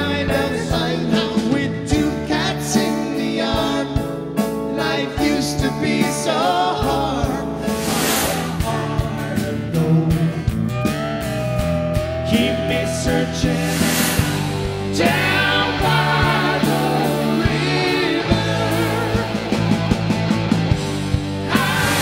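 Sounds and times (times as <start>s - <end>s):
person singing: 0.0s - 4.0s, 4.7s - 19.6s, 21.4s - 22.0s
bass guitar: 0.0s - 22.0s
electric guitar: 0.0s - 22.0s.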